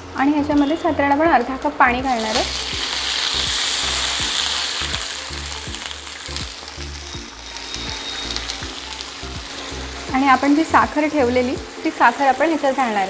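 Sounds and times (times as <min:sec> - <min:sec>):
water sizzling in hot oil: 0:00.0 - 0:13.0.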